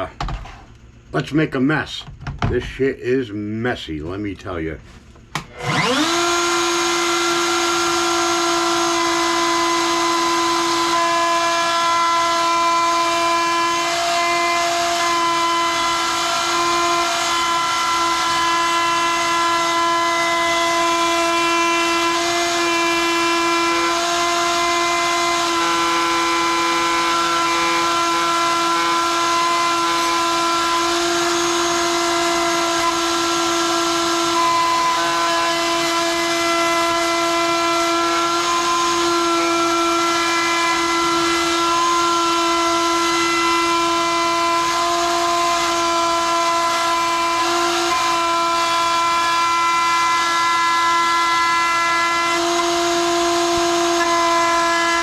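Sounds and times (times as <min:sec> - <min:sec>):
wood router whining: 0:04.9 - 0:55.0.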